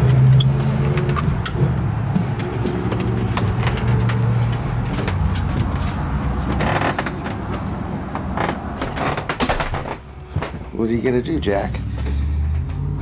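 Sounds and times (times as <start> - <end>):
door opening clicks and knocks: 0.0 - 10.5.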